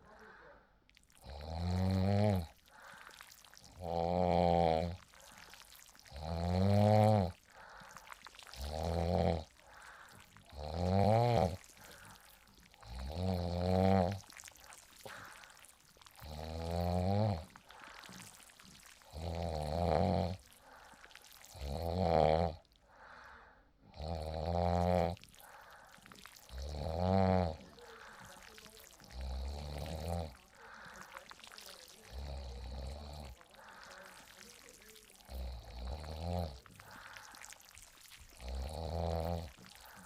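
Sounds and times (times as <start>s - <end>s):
person snoring: 0.0s - 40.0s
quiet breathing: 0.0s - 40.0s.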